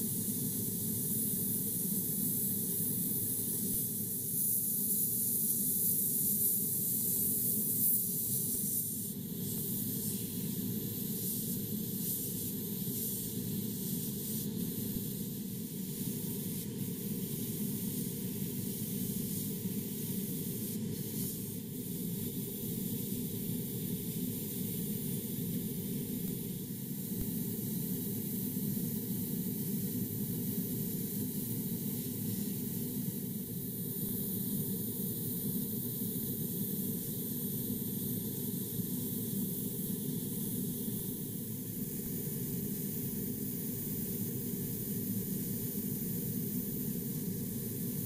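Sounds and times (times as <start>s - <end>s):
airbrush spraying hiss: 0.0s - 48.0s.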